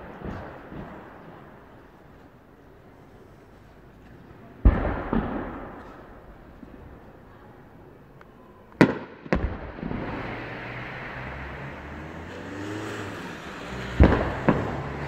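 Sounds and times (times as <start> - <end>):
rolling echo and rumble: 0.0 - 12.2, 13.1 - 15.0.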